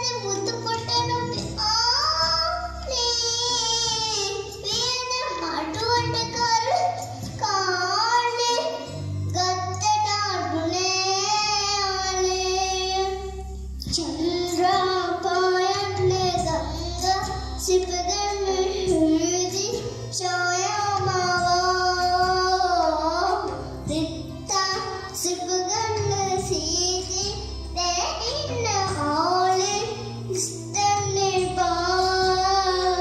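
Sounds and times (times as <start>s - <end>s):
girl singing: 0.0s - 33.0s.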